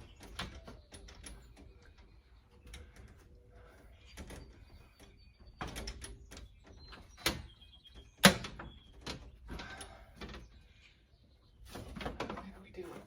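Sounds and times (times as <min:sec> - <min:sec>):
frame clicking and rattling: 0:00.0 - 0:10.7.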